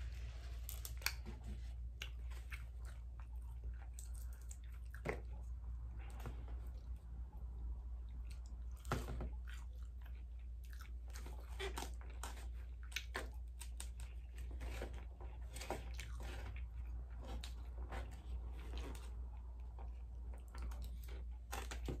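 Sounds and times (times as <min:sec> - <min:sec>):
crunchy chewing and mouth smacking: 0:00.6 - 0:22.0.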